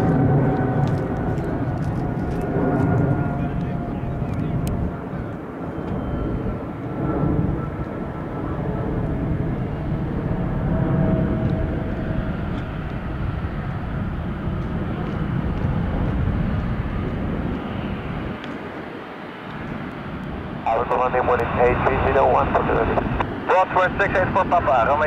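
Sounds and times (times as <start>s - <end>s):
jet engines rumbling with whine: 0.0s - 25.0s.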